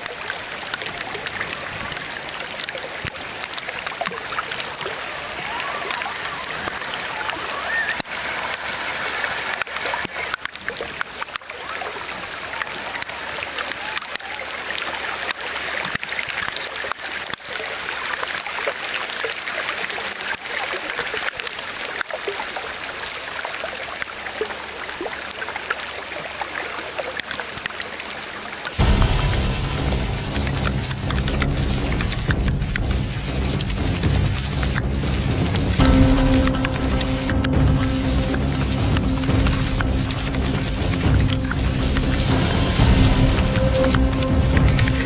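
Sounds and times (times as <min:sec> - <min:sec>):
toy truck splashing through water: 0:00.0 - 0:44.7
heavy rain on river: 0:00.0 - 0:45.0.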